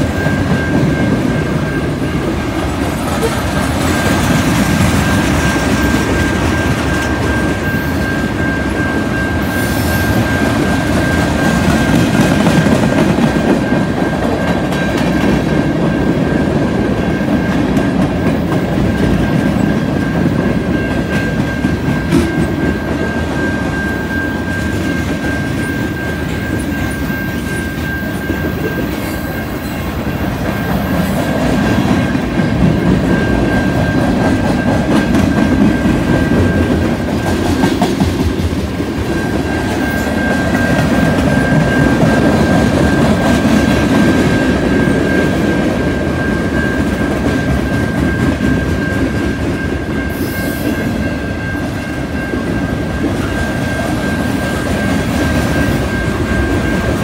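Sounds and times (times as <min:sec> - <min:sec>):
high-pitched ringing tone: 0:00.0 - 0:57.0.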